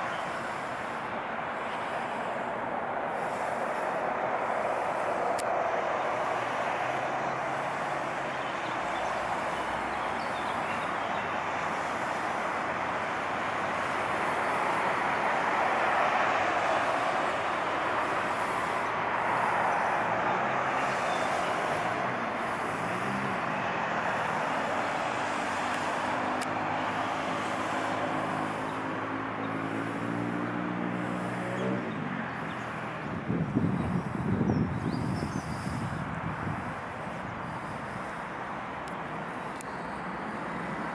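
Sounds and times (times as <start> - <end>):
engine hum: 0.0 - 40.9
traffic noise: 0.0 - 40.9.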